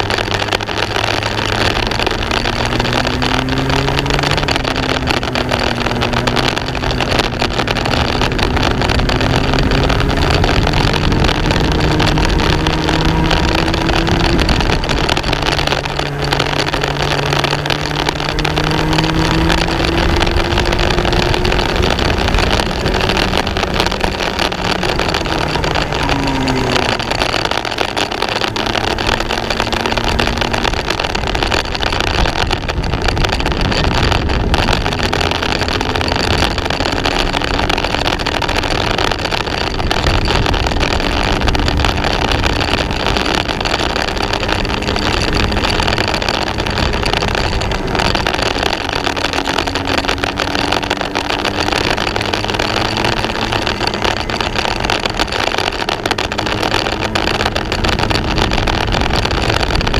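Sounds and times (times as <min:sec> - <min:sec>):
kart engine running: 0:00.0 - 0:59.9
steady rush of noise: 0:00.0 - 0:59.9.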